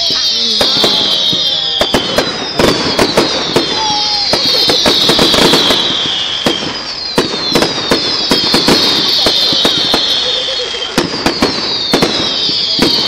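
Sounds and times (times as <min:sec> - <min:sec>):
firework hiss falling in pitch: 0:00.0 - 0:13.0
fireworks bangs and cracks: 0:00.0 - 0:13.0.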